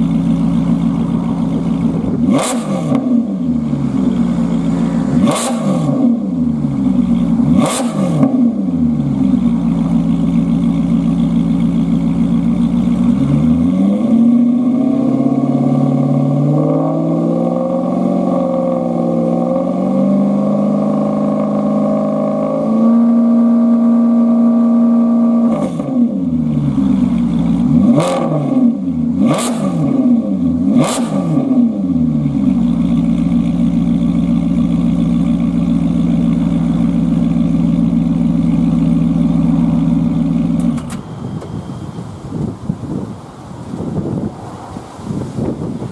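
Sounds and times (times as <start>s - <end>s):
car engine idling and revving: 0.0s - 45.9s.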